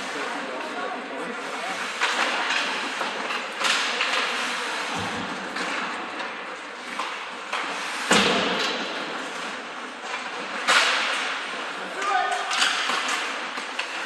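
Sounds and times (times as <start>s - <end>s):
skates rushing on ice: 0.0s - 14.0s
puck hitting the boards: 1.8s - 14.0s.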